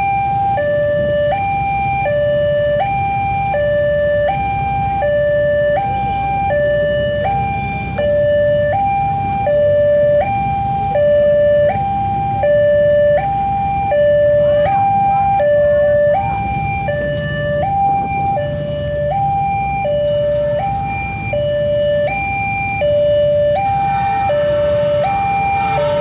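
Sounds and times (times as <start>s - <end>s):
level crossing two-tone alarm: 0.0s - 26.0s.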